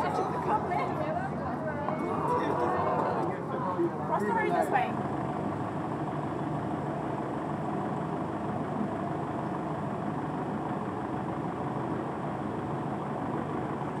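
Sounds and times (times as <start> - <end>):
city traffic engines rumbling: 0.0 - 14.0.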